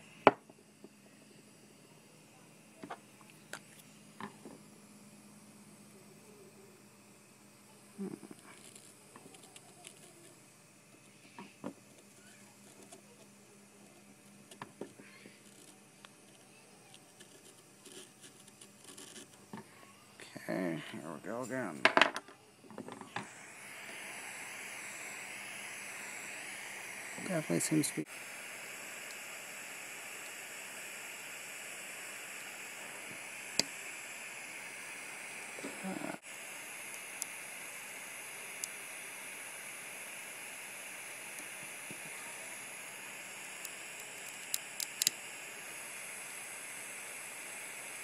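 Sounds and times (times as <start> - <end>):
blowtorch hissing: 0.0 - 48.0.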